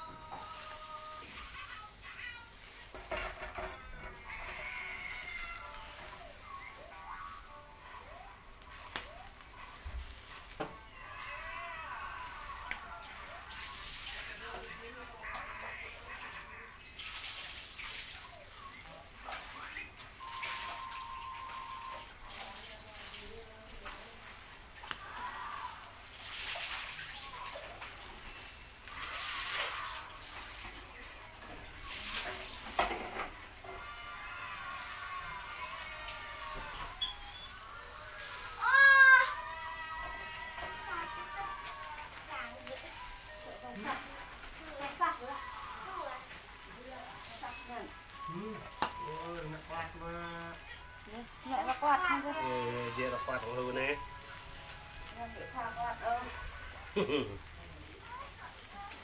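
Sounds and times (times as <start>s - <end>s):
meat sizzling over charcoal: 0.0s - 59.0s
sharp crackle: 0.0s - 59.0s.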